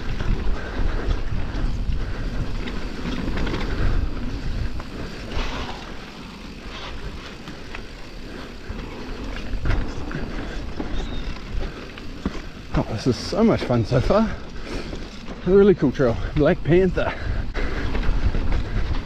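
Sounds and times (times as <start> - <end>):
bike knocking and rattling: 0.0 - 19.0
bike tyres rumbling over dirt: 0.0 - 19.0.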